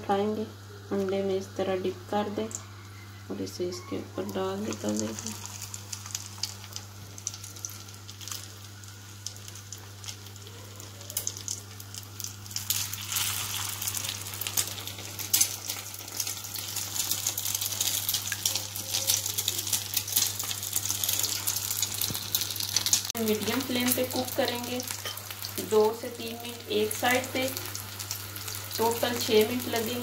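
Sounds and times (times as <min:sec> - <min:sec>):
food sizzling in oil: 0:02.2 - 0:30.0.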